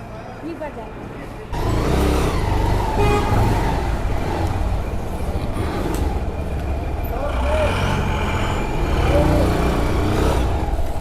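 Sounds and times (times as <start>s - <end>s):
road vehicle noise: 0.0s - 11.0s.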